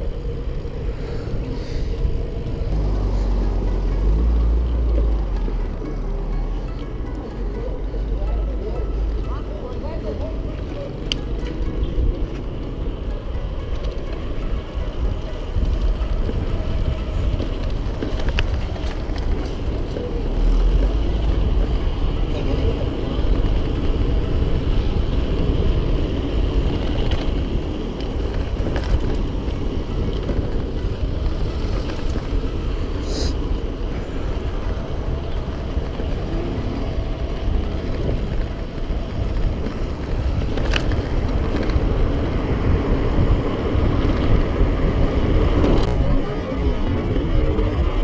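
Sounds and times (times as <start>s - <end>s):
bicycle road noise: 0.0s - 48.0s
rumbling wind: 0.0s - 48.0s.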